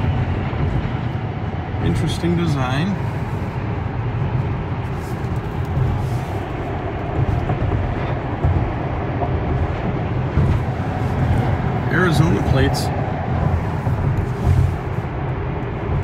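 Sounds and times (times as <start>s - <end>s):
deep rumble of trucks: 0.0s - 16.0s
tyre and wind noise: 0.0s - 16.0s.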